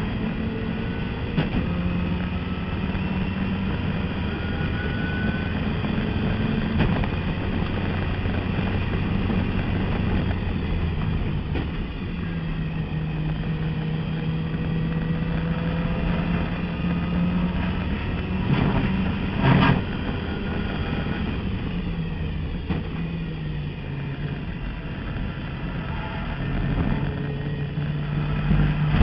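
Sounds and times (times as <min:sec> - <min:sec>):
race car engine running hard: 0:00.0 - 0:29.0.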